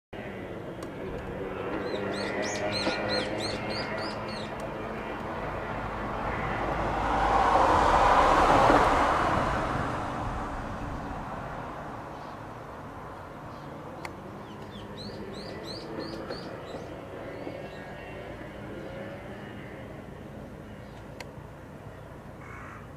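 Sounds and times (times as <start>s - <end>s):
vehicle passing by: 1.0s - 22.2s.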